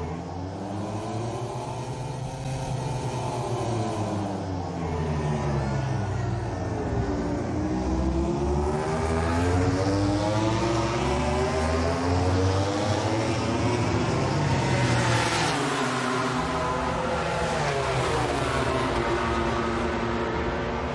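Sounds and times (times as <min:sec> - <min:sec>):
racing motorcycle engines: 0:00.0 - 0:20.9.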